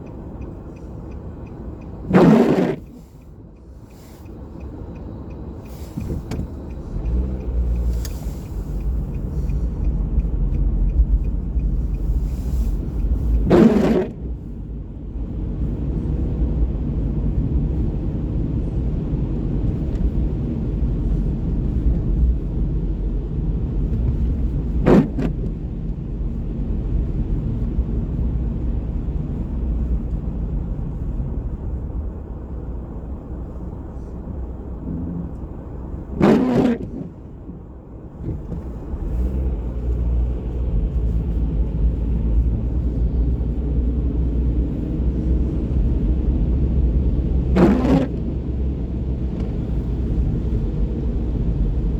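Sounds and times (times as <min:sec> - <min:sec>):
city street traffic rumble: 0:00.0 - 0:51.9.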